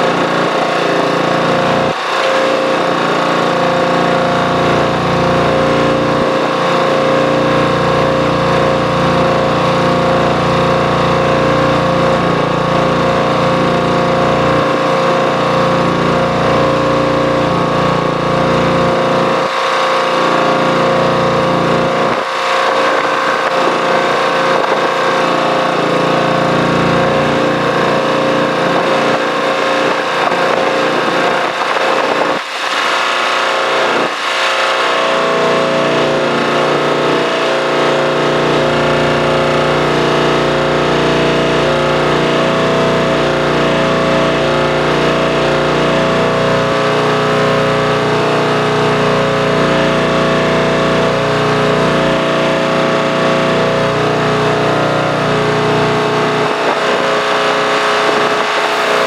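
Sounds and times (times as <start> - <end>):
engine humming steadily: 0.0 - 59.0.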